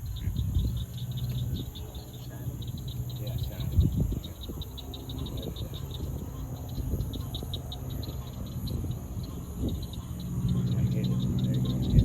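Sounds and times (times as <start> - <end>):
airboat engine hum: 0.0 - 12.0
night insects chirping: 0.0 - 12.0.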